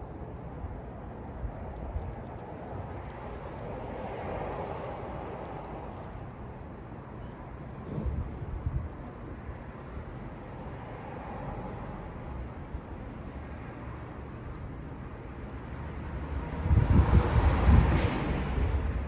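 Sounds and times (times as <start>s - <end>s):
wind buffeting microphone: 0.0s - 11.1s, 11.8s - 19.0s.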